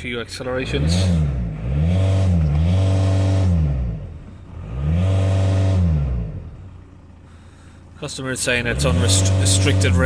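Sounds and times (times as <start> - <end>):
diesel engine revving: 0.0 - 10.0.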